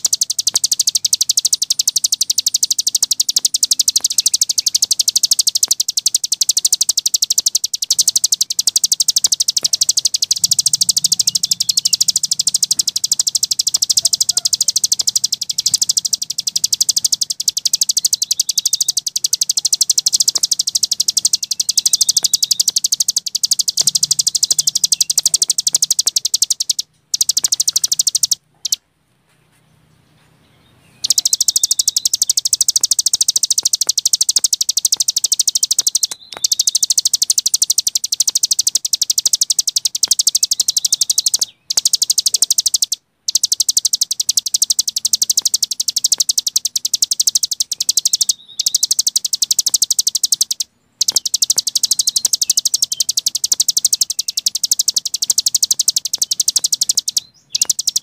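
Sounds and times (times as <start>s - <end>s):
songbird fast high trill: 0.0s - 28.8s, 31.0s - 58.0s.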